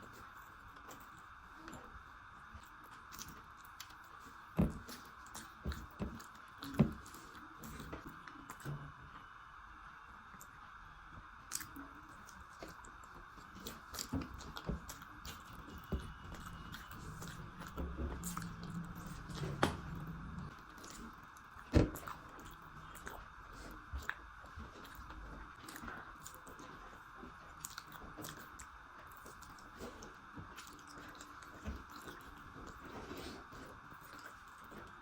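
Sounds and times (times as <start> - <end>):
person chewing food: 0.0 - 8.8, 11.5 - 35.0.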